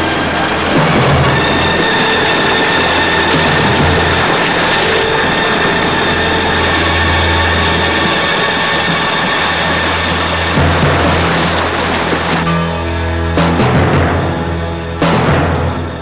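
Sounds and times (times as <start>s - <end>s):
low hum: 0.0s - 16.0s
train rumble and clatter: 0.0s - 16.0s.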